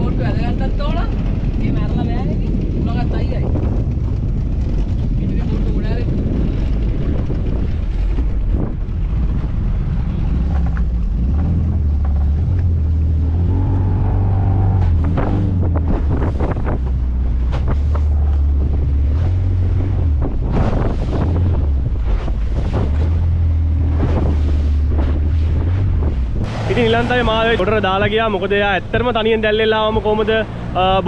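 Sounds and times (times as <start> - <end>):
outboard motor running: 0.0 - 31.0
wind on microphone: 0.0 - 31.0
water slapping against hull: 0.1 - 13.3, 14.7 - 28.0.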